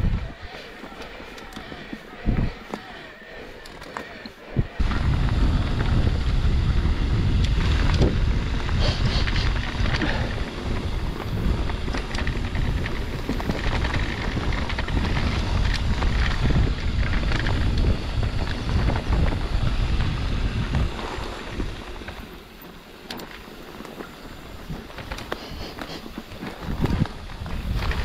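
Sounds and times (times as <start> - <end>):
wind buffeting microphone: 0.0 - 22.7, 23.6 - 28.0
bike rattling over rough ground: 0.0 - 28.0.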